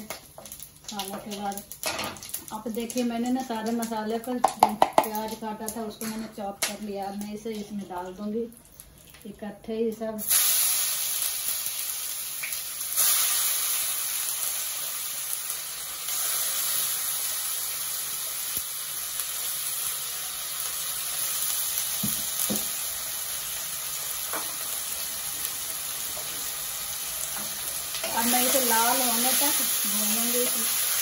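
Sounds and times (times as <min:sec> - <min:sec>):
onion frying in oil sizzling: 0:00.0 - 0:31.0.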